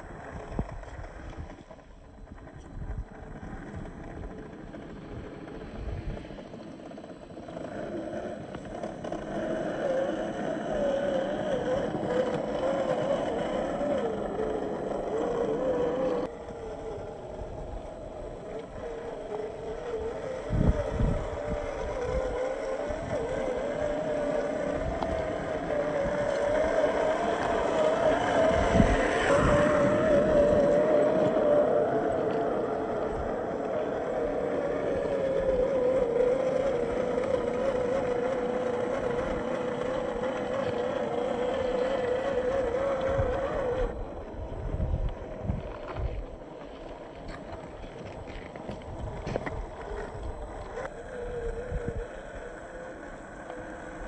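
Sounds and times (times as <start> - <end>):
toy car motor whining: 0.0 - 54.0.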